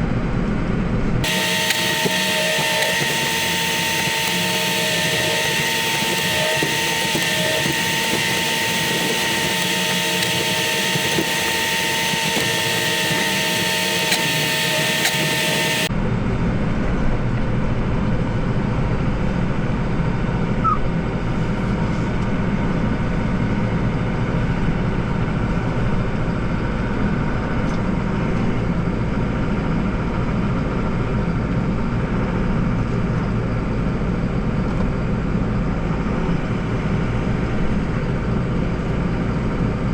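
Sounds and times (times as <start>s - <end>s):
snowblower whine: 1.2s - 17.3s, 17.9s - 39.9s.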